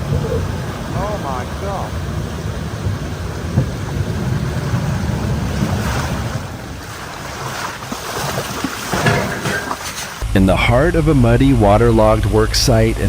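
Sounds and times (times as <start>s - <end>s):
even rushing noise: 0.0s - 13.0s
heavy machine engine rumbling: 0.0s - 13.0s.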